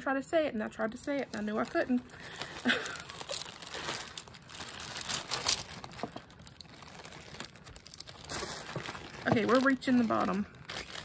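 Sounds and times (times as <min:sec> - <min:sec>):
plastic bag crinkling: 0:00.9 - 0:11.0.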